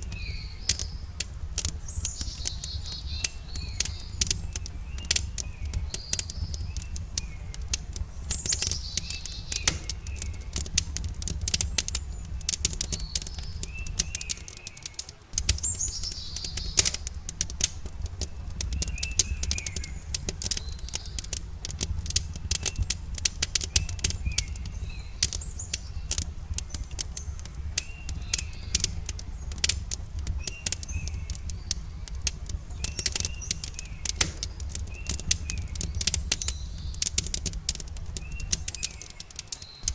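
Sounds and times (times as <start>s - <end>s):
birds chirping and whistling: 0.0s - 39.9s
campfire crackling: 0.0s - 39.9s.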